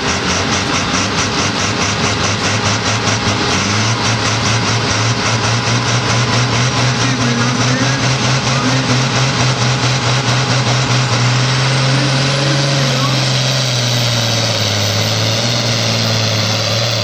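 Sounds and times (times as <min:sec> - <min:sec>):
diesel engine under full load: 0:00.0 - 0:17.0.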